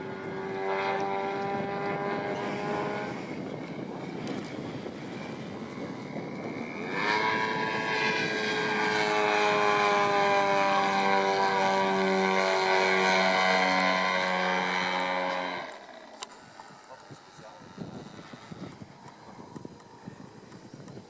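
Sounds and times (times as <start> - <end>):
model airplane engine and propeller drone: 0.0 - 21.0.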